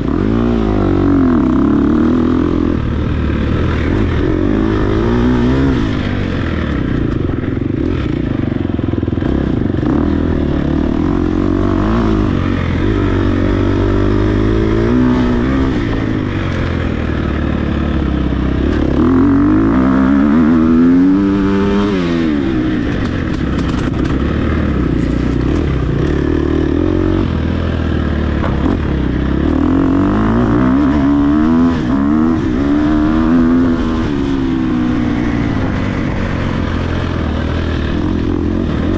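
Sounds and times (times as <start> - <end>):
clatter: 0.0 - 20.7, 21.7 - 38.9
dirt bike engine revving: 0.0 - 38.9.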